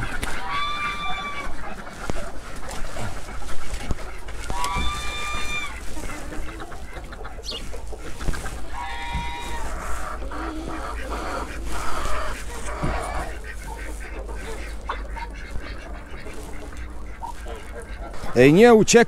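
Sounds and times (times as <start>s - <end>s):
chickens clucking: 0.0s - 19.0s
drawn-out poultry call: 0.0s - 19.0s.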